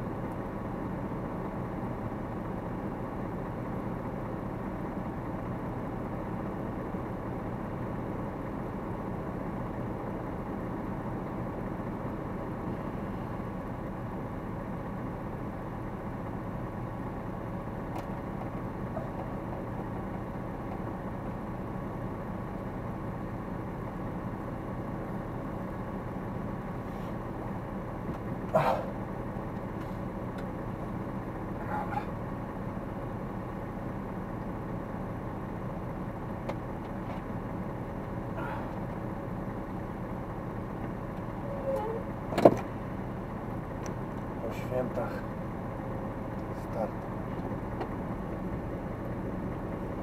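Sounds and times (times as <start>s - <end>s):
diesel lorry engine idling: 0.0s - 50.0s.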